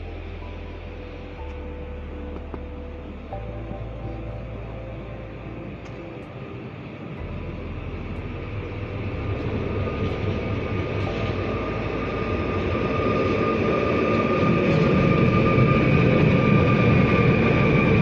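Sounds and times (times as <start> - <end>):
electric train rumble: 0.0 - 18.0
steady whine: 0.0 - 18.0.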